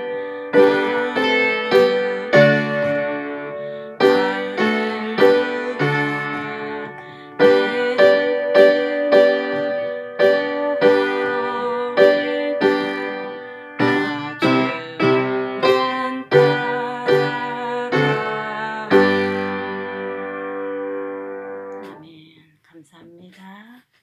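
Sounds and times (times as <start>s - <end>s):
piano playing hymn chords: 0.0s - 22.0s.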